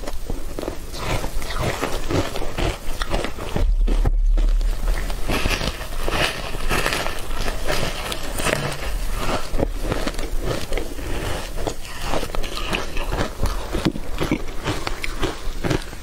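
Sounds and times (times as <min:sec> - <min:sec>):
biting and chewing food: 0:00.0 - 0:16.0.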